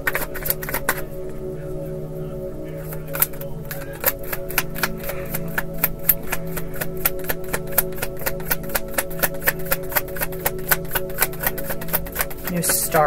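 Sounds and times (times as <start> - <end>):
background music with held tones: 0.0 - 13.0.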